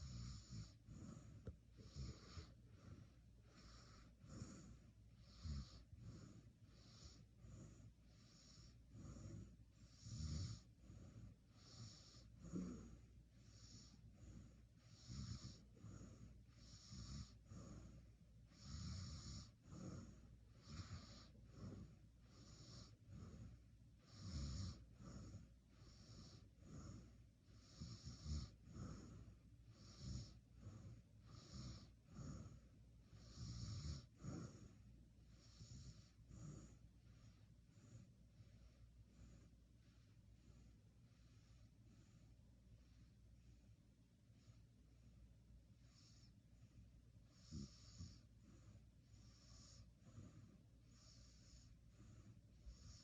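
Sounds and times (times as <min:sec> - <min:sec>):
person snoring faintly: 0:00.0 - 0:42.3, 0:47.2 - 0:53.0.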